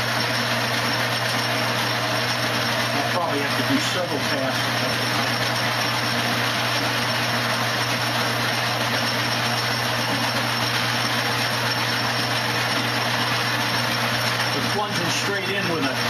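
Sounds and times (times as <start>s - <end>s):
lathe running with hum and hiss: 0.0s - 16.0s.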